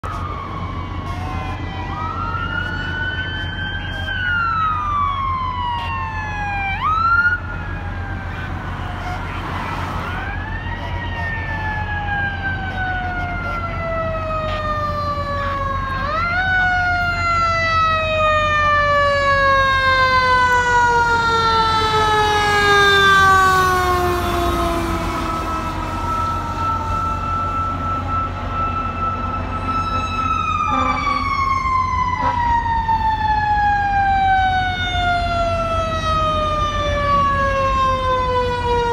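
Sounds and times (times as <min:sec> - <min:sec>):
emergency vehicle sirens wailing: 0:00.0 - 0:38.9
rumble of engines and traffic: 0:00.0 - 0:38.9.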